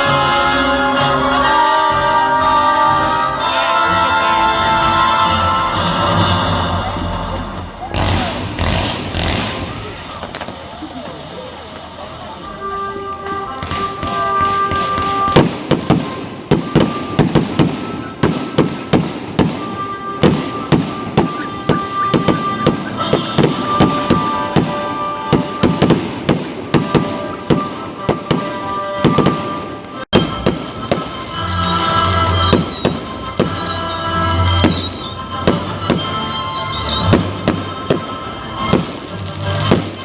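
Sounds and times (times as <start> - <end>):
music playing: 0.0 - 10.5, 12.0 - 40.0
fireworks bursting: 0.0 - 40.0.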